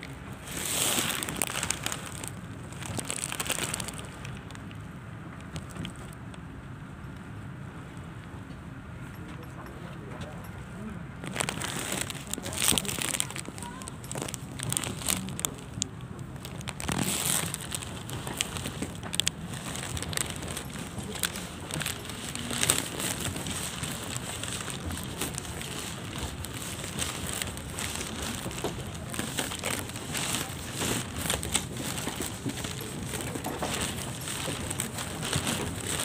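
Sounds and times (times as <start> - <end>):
rain pattering on glass and metal: 0.1 - 4.8, 11.2 - 36.0.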